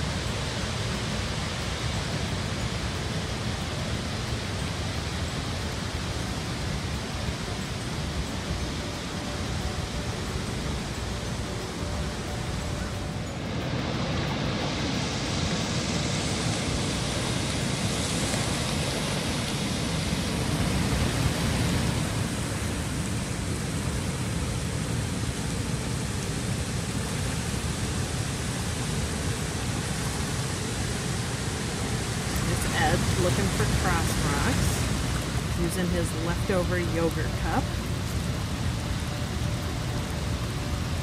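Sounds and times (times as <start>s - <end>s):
rushing river water: 0.0s - 41.0s.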